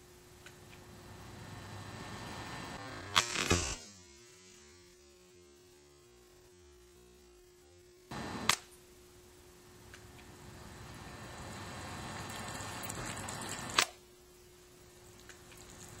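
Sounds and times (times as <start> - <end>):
faint steady hum: 0.0 - 3.2, 4.0 - 16.0.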